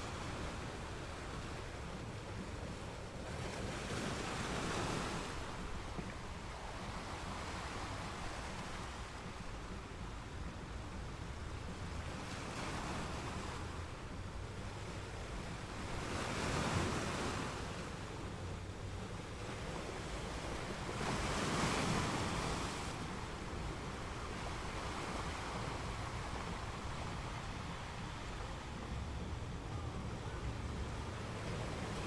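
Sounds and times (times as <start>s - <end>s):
ocean waves washing onto beach: 0.0s - 32.0s.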